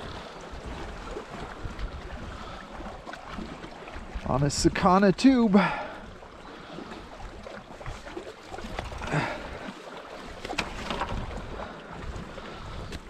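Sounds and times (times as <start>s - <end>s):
wind rumbling on microphone: 0.0s - 4.8s, 6.9s - 13.0s.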